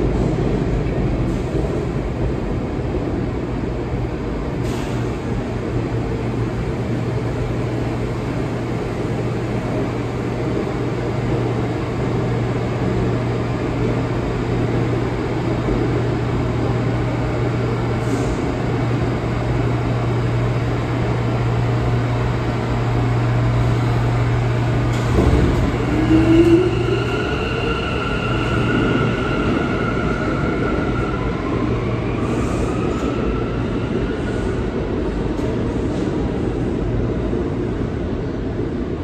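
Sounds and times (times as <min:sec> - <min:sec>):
subway train motor hum and whine: 0:00.0 - 0:39.0.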